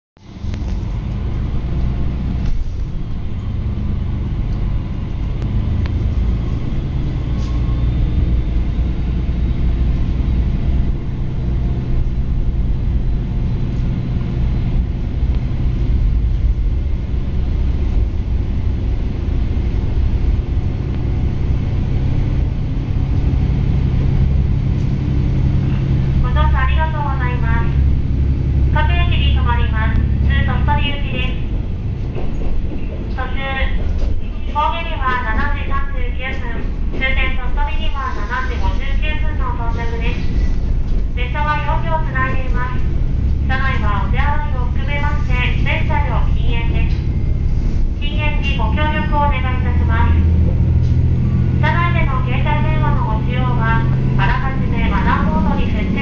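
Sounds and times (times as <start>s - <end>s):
diesel railcar engine humming: 0.2s - 56.0s.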